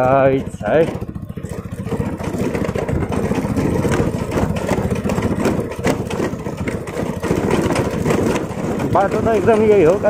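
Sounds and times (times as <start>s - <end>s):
motorcycle engine running: 0.0s - 10.0s
knocks and jolts from bumps: 0.7s - 10.0s.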